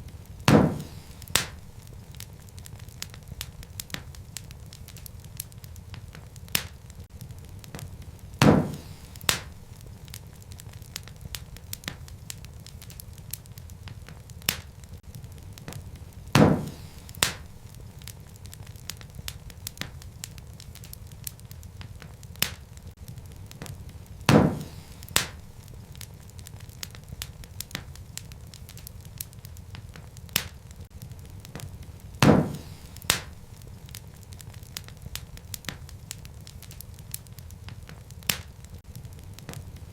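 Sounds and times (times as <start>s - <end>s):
low rumble of burning logs: 0.0s - 39.9s
sharp pops from fire: 0.0s - 39.9s
wood fire crackling: 0.0s - 39.9s.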